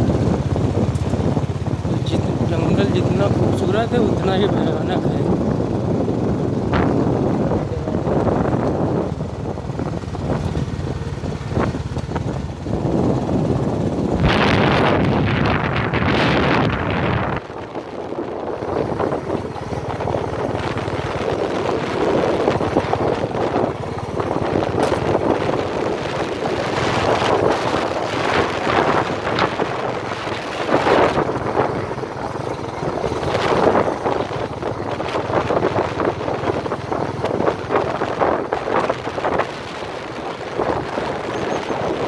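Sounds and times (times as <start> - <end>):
vehicle driving on dirt track: 0.0 - 42.0
wind on microphone: 0.0 - 42.0.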